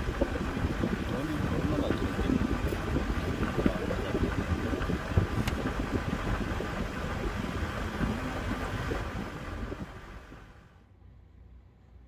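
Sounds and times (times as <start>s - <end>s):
wind buffeting microphone: 0.0s - 10.6s
traffic rumble: 0.0s - 12.0s.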